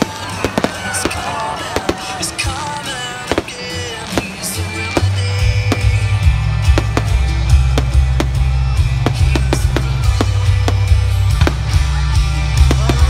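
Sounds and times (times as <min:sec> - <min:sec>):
fireworks banging: 0:00.0 - 0:13.0
loud music with heavy bass: 0:00.0 - 0:13.0.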